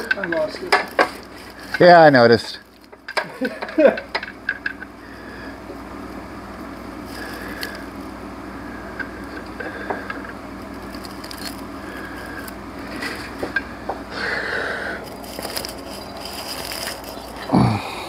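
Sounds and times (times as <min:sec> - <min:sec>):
hands and tools clicking and scraping: 0:00.0 - 0:04.9, 0:07.1 - 0:08.1, 0:08.9 - 0:17.5.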